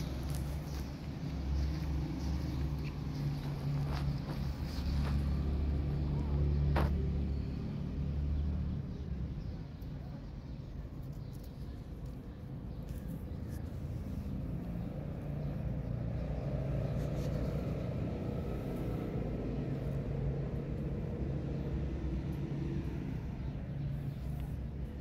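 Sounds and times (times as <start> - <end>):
vehicle engine running: 0.0 - 9.0, 13.1 - 25.0.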